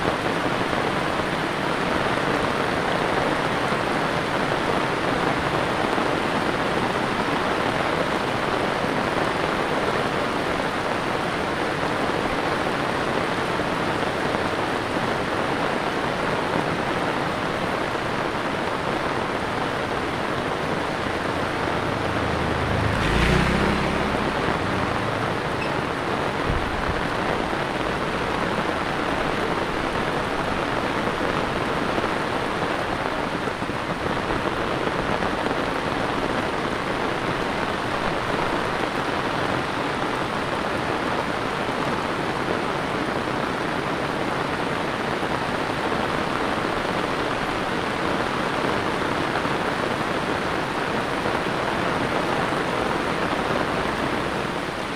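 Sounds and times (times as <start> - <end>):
heavy rain on pavement: 0.0 - 54.9.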